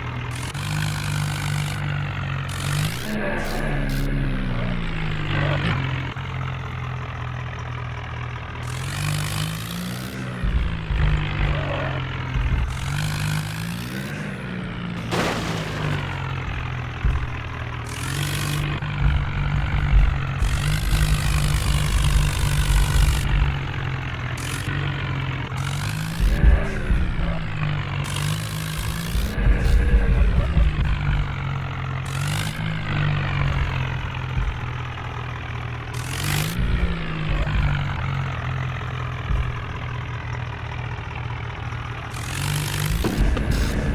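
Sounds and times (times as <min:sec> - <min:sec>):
tractor diesel engine revving: 0:00.0 - 0:43.9.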